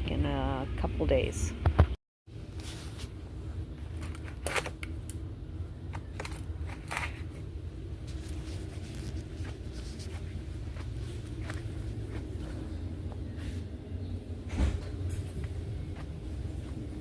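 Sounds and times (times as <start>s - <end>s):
store interior hum: 0.0s - 17.0s.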